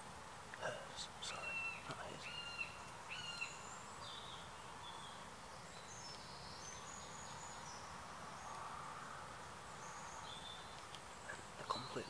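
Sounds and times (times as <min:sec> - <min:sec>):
steady faint hiss: 0:00.0 - 0:12.0.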